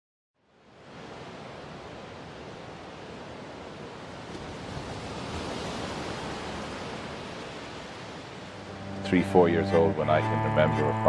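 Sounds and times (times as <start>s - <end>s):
sea waves rushing: 0.5s - 11.0s.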